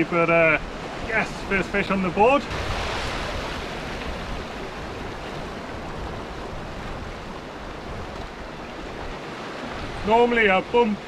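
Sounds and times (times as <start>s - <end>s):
waves washing against rocks: 0.0s - 11.0s.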